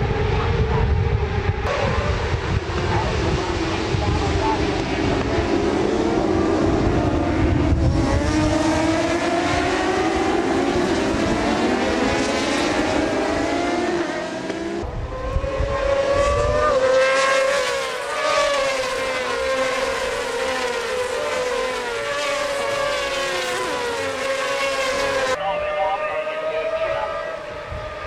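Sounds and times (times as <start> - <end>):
racing motorcycle engines revving: 0.0 - 28.0.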